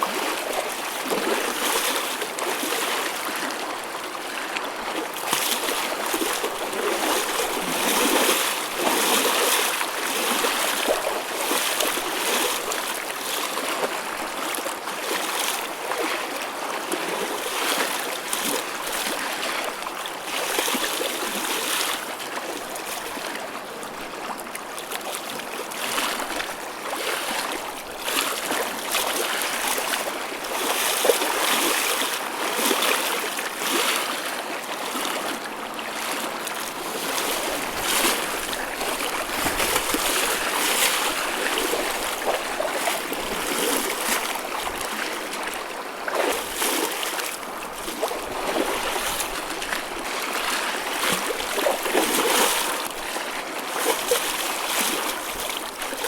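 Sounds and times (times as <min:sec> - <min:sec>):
choppy ocean waves splashing: 0:00.0 - 0:56.0.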